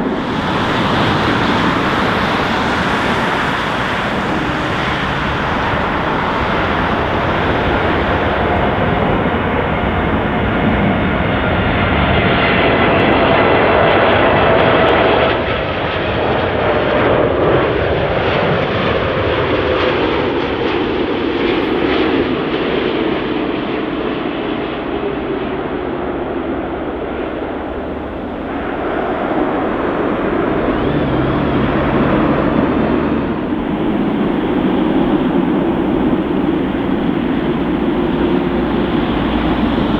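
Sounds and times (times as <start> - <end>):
jet engines roaring past: 0.0 - 39.9.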